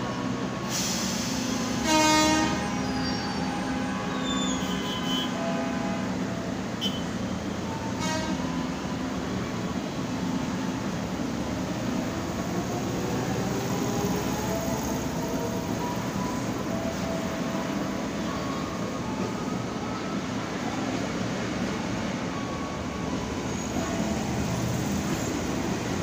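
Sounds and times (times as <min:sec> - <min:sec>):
wheels rumbling on track: 0:00.0 - 0:26.0.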